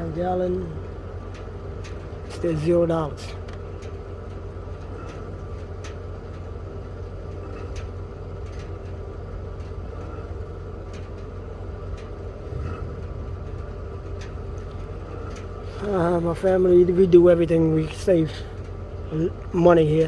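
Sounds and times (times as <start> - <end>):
fuel pump hum and rumble: 0.0 - 20.0.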